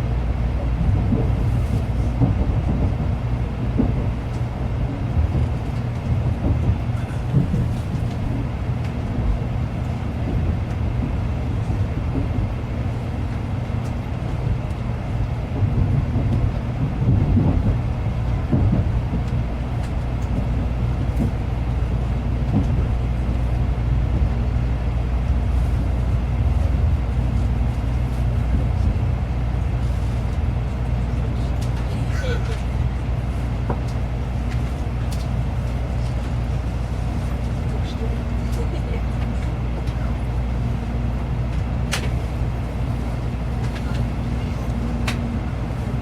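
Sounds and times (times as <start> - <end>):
train bumps: 0.0 - 46.0
train running low rumble: 0.0 - 46.0.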